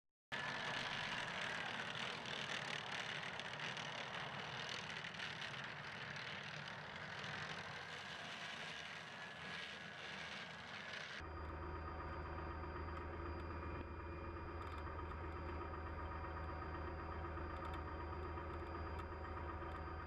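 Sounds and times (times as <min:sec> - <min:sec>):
diesel engine running: 0:00.4 - 0:20.0.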